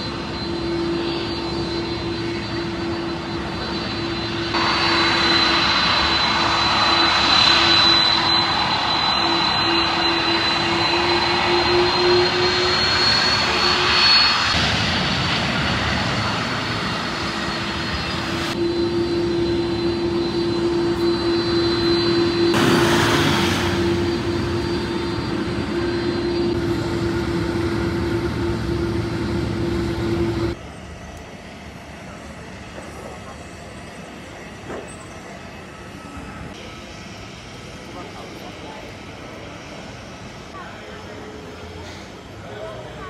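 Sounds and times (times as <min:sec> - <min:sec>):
jet engines running: 0:00.0 - 0:43.0.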